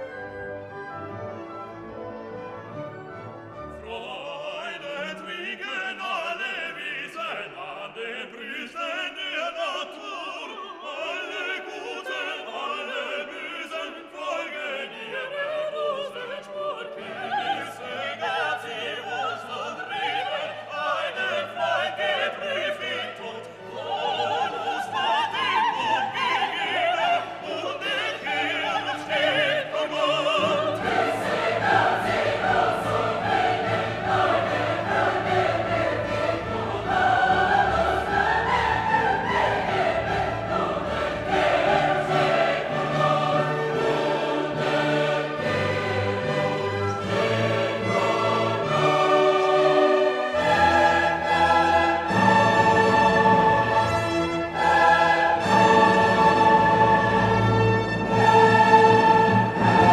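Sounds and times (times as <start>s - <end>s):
orchestral music with choral singing: 0.0s - 59.9s.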